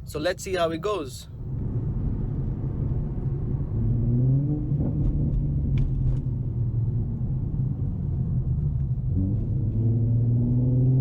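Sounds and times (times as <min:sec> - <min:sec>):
car engine and exhaust drone: 0:00.0 - 0:11.0.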